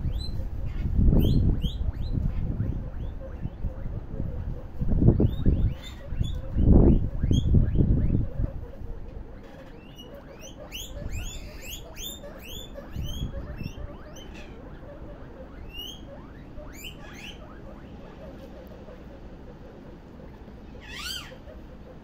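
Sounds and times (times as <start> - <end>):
guinea pigs squeaking: 0.0 - 22.0.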